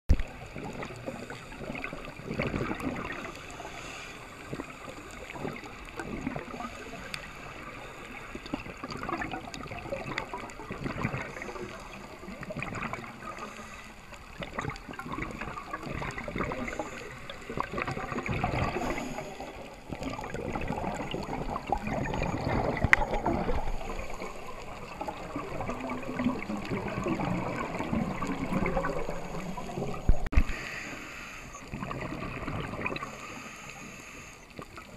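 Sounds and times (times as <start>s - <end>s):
underwater bubbles gurgling: 0.1s - 34.9s.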